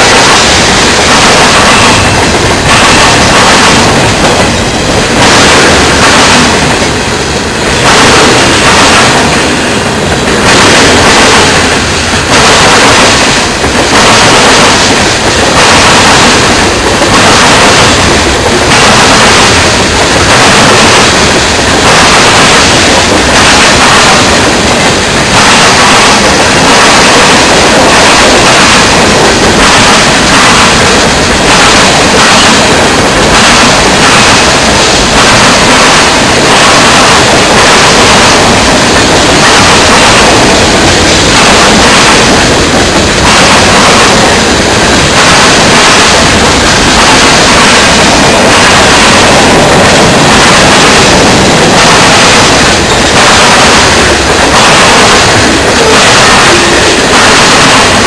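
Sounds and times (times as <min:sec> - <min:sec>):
freight cars rolling on rails: 0:00.0 - 0:58.0.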